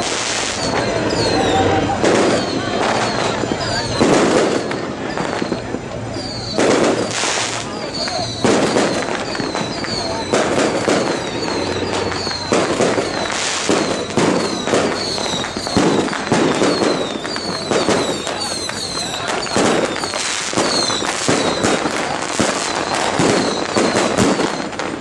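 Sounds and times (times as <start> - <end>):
high falling whistle: 0.0 - 24.8
firecrackers crackling: 0.0 - 25.0
heavy bangs: 0.0 - 25.0.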